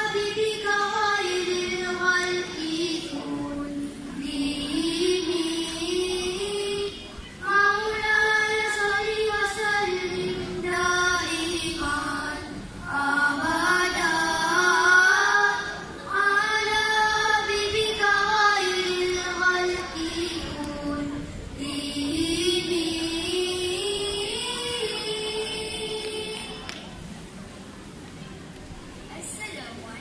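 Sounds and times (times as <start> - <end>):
boys singing devotional song: 0.0 - 26.7.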